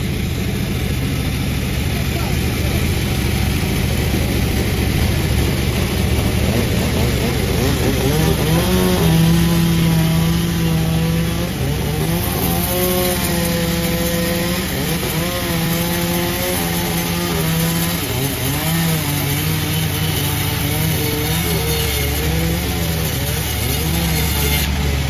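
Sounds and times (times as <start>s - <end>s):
chainsaw cutting through log: 0.0s - 25.0s.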